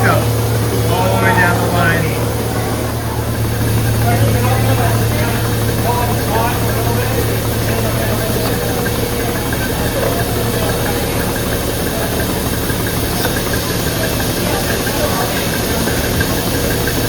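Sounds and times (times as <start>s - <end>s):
vacuum system humming: 0.0s - 17.0s.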